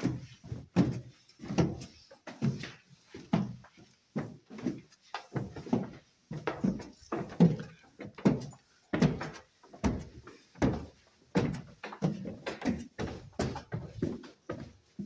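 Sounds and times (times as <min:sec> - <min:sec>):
footsteps on wooden stairs: 0:00.0 - 0:15.0.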